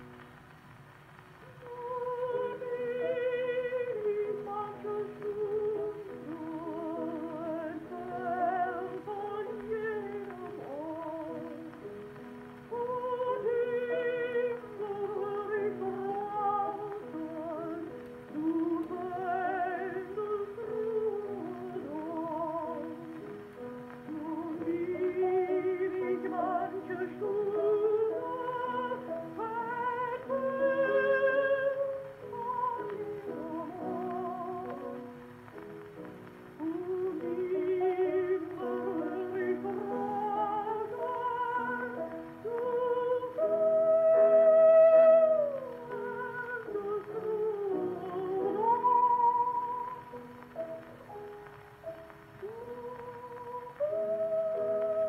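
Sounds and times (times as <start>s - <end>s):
piano accompaniment: 0.0s - 55.0s
woman singing with vibrato: 1.5s - 11.8s, 12.6s - 23.3s, 24.0s - 35.1s, 36.5s - 50.4s, 52.3s - 55.0s.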